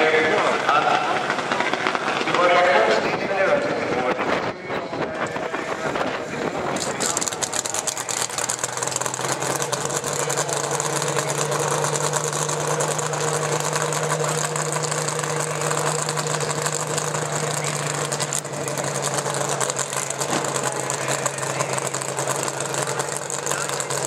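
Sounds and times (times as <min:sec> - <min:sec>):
dragster engine idling: 0:00.0 - 0:04.5, 0:05.2 - 0:24.0.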